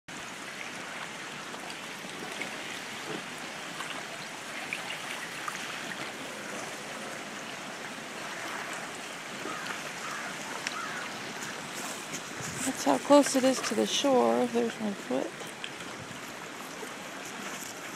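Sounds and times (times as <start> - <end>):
river water running: 0.1 - 17.9.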